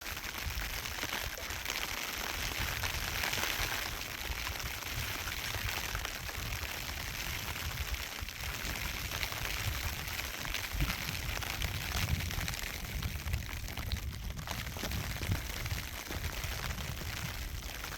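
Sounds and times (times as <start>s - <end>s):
storm wind on microphone: 2.4s - 17.9s.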